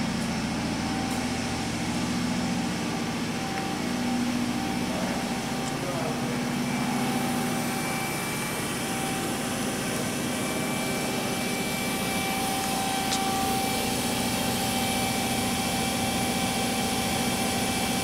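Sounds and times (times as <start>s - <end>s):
machine hum with whining tones: 0.0s - 18.0s.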